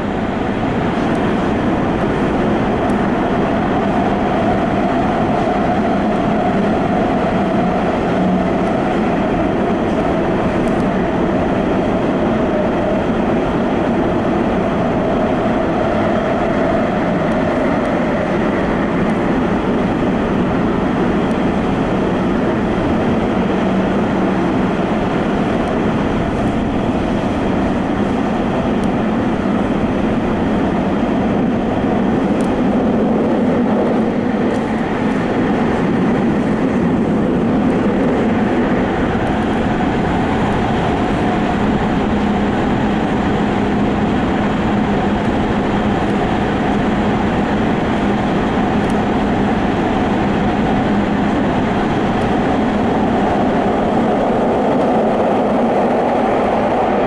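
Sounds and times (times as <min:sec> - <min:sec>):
subway train wheels rumbling: 0:00.0 - 0:57.0.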